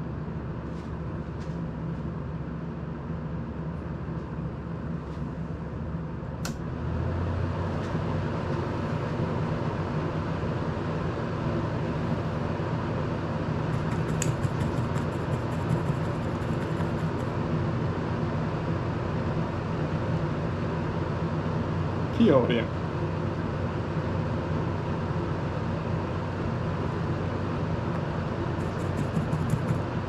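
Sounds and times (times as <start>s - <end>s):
electric fan humming: 0.0s - 30.0s.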